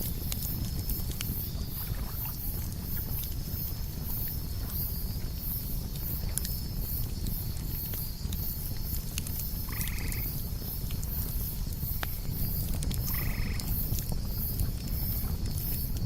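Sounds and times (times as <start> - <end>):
campfire crackling and popping: 0.0 - 16.0
crickets chirping: 0.0 - 16.0
high insect trill: 0.0 - 16.0.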